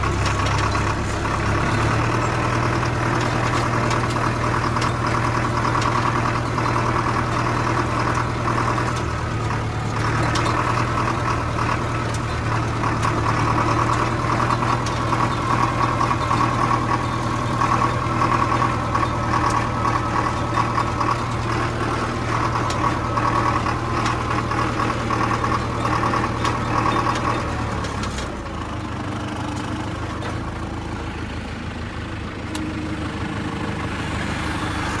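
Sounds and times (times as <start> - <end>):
tractor diesel engine humming: 0.0 - 35.0.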